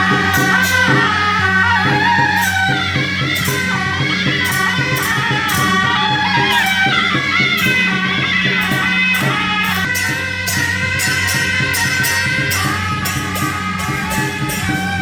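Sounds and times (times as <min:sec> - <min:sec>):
bright cymbal-like hits: 0:00.0 - 0:15.0
melody over drone and beat: 0:00.0 - 0:15.0.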